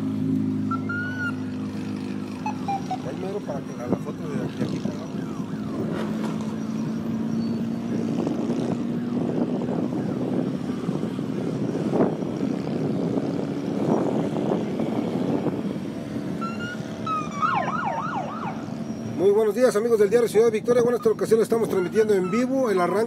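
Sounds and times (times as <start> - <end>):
motorcycles riding past: 0.0 - 19.4.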